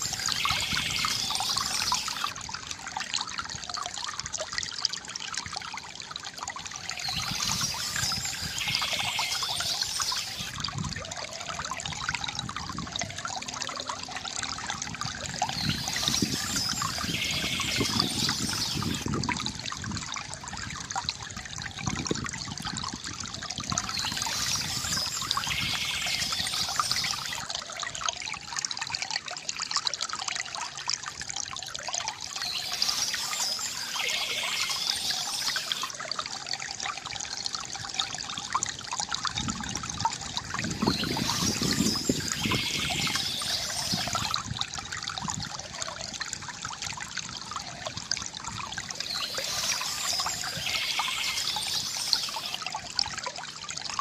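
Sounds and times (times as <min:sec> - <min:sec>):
fountain water trickling and splashing: 0:00.0 - 0:54.0.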